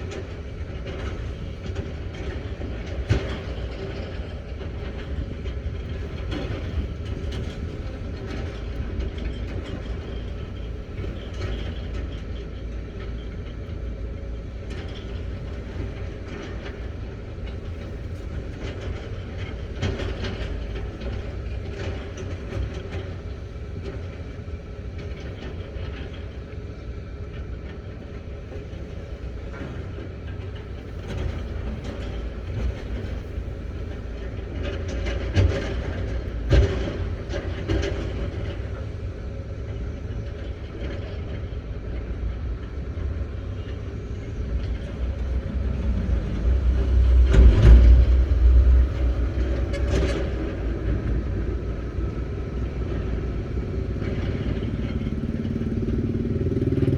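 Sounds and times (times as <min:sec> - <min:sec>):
excavator diesel engine rumbling: 0:00.0 - 0:56.9.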